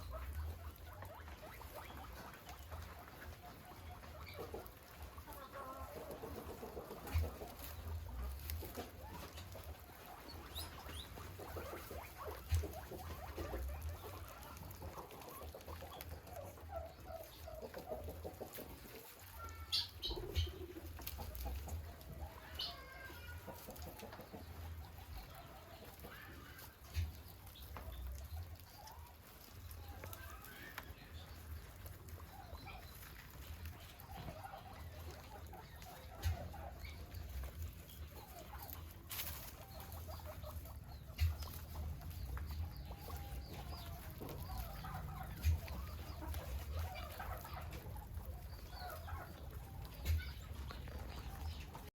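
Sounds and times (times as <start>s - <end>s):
guinea pigs pattering: 0.0s - 51.9s
guinea pigs squeaking: 0.0s - 51.9s.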